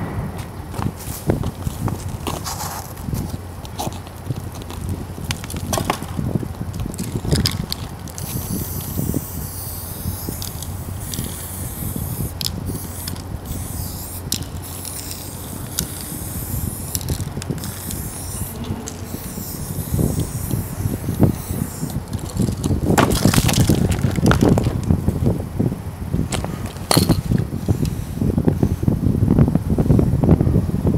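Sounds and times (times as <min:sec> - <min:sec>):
spray paint can hissing: 0:00.0 - 0:25.3, 0:26.3 - 0:28.9.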